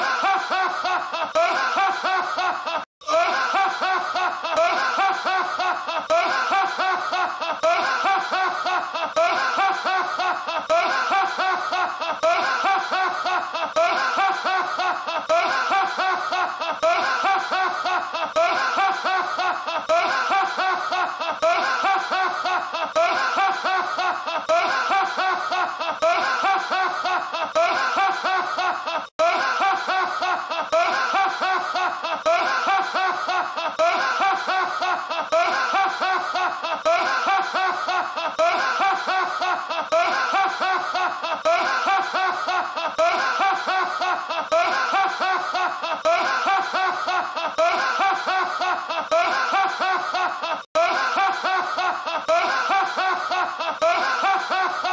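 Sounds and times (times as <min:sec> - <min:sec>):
man laughing heartily: 0:00.0 - 0:54.9.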